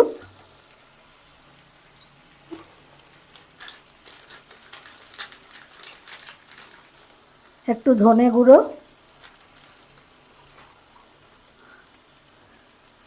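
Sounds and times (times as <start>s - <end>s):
oil crackling and popping: 0.0s - 8.0s, 8.8s - 13.0s
faint sizzling of frying food: 0.0s - 13.0s.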